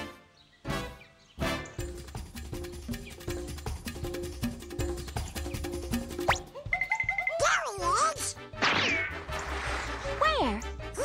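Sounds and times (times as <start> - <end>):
cartoon background music: 0.0 - 11.0.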